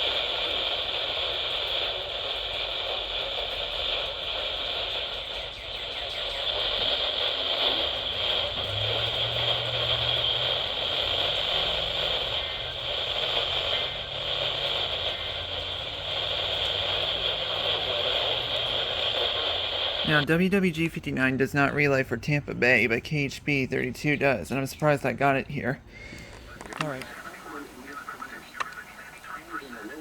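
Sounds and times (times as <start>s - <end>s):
radio static hiss: 0.0s - 30.0s
faint broadcast voice: 4.0s - 30.0s.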